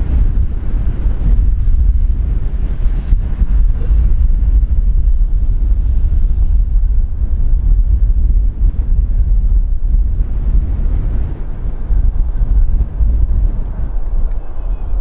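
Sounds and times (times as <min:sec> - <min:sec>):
jet engine noise: 0:00.0 - 0:15.0
wind buffeting microphone: 0:00.0 - 0:15.0.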